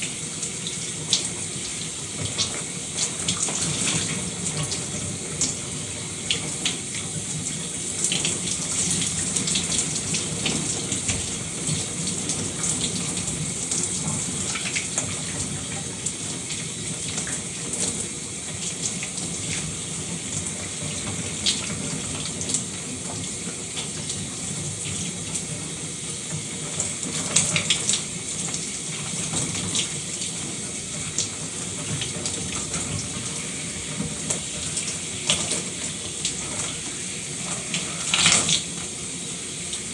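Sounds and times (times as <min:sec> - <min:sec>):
shower water running and splashing: 0:00.0 - 0:39.9.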